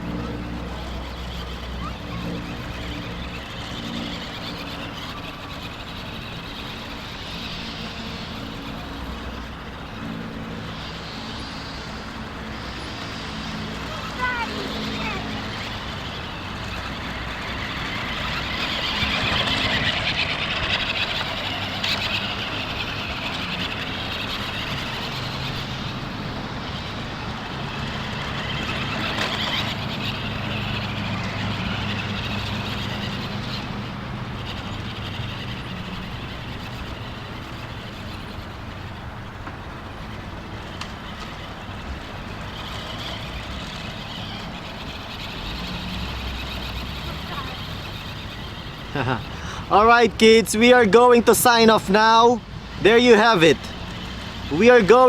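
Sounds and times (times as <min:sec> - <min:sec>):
toy truck motor whirring: 0:00.0 - 0:55.0.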